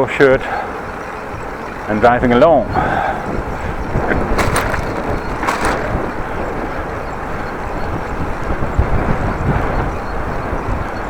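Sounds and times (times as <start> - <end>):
wind buffeting microphone: 0.7 - 11.0.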